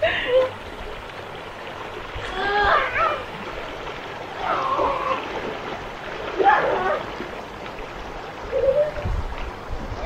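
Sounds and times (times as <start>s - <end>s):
shallow river rushing: 0.0s - 10.0s.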